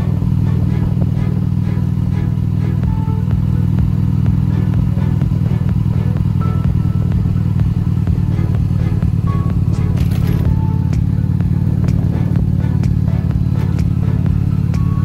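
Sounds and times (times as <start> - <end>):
motorcycle engine running: 0.0 - 15.0
music with regular beat: 0.0 - 15.0.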